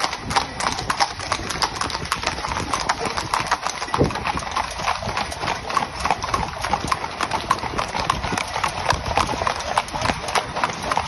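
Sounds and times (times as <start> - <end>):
horse hooves clip-clopping on road: 0.0 - 11.0.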